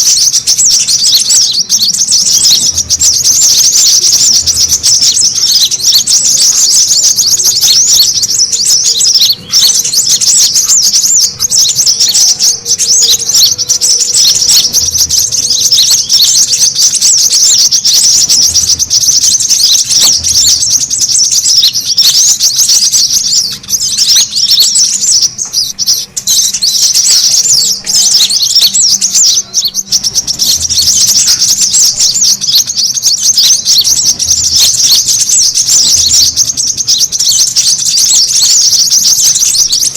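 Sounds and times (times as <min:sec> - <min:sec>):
birds twittering rapidly: 0:00.0 - 0:39.9.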